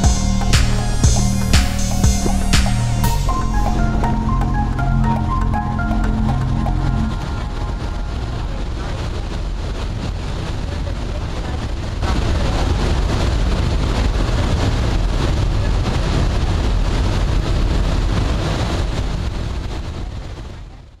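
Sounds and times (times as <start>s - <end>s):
churning wake water rushing: 0.0s - 20.5s
wind on microphone: 0.0s - 21.0s.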